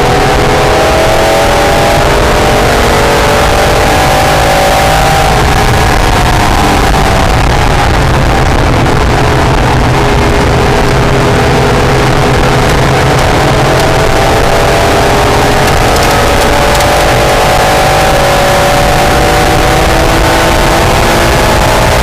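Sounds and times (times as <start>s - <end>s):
car engine pulling hard: 0.0s - 22.0s
wind and road noise: 0.0s - 22.0s.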